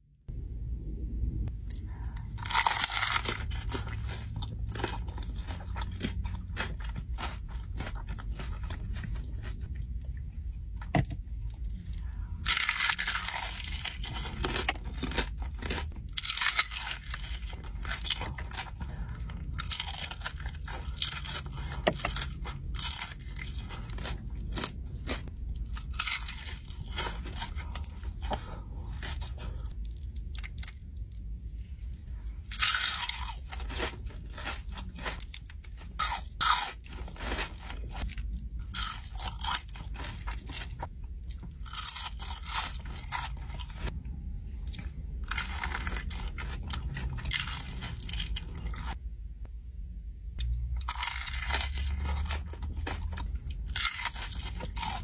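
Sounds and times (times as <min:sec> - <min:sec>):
crunchy chewing: 0:01.7 - 0:10.2, 0:11.5 - 0:44.0, 0:44.6 - 0:49.0, 0:50.4 - 0:55.0.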